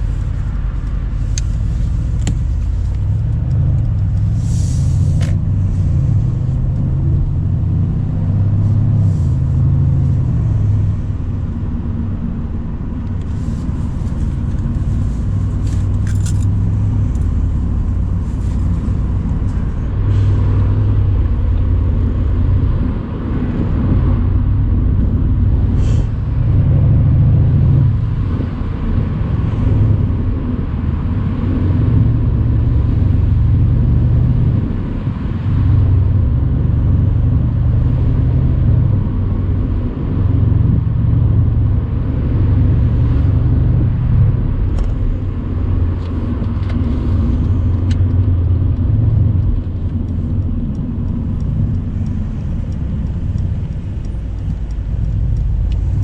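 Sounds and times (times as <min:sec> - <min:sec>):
car engine on open road: 0:00.0 - 0:56.0.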